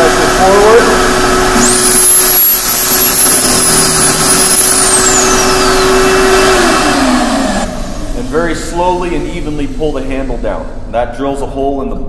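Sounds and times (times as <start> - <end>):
shop vacuum running: 0.0 - 12.0.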